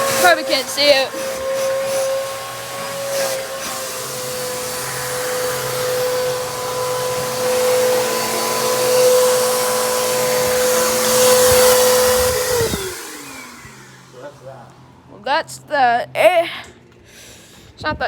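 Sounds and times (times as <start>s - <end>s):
vacuum cleaner running: 0.0s - 15.2s.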